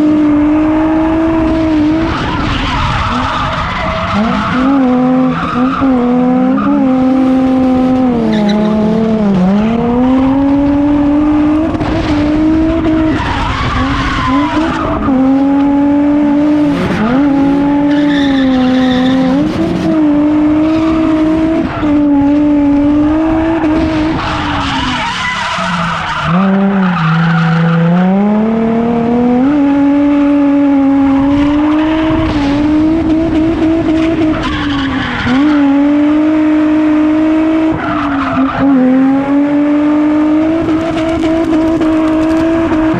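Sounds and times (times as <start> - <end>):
tyres skidding and squealing: 0.0 - 28.3, 30.2 - 42.9
car engine revving high: 0.0 - 42.9.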